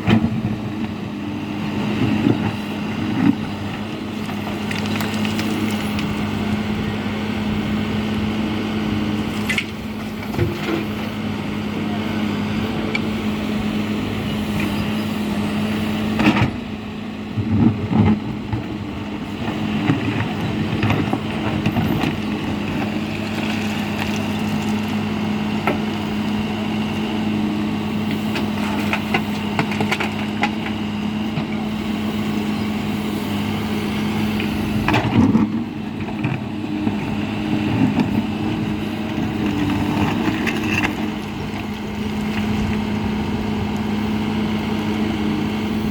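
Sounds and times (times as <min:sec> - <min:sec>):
backhoe diesel engine working: 0:00.0 - 0:45.9.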